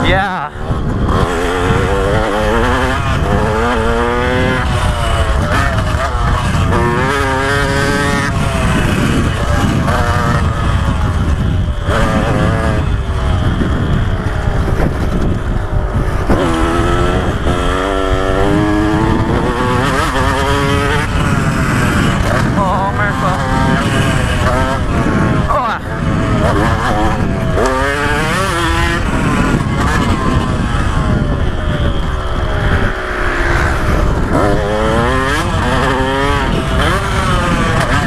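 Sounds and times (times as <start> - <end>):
two-stroke motorcycle engine revving: 0.0 - 38.0.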